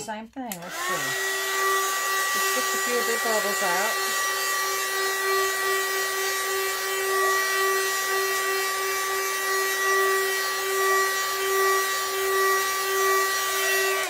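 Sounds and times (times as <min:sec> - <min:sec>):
hot-air gun motor whine: 0:00.5 - 0:14.0.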